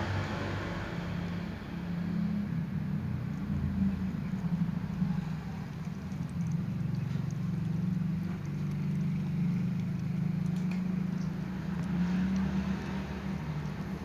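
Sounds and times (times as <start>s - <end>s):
steady low hum: 0.7s - 14.0s
kitten lapping water: 1.3s - 14.0s.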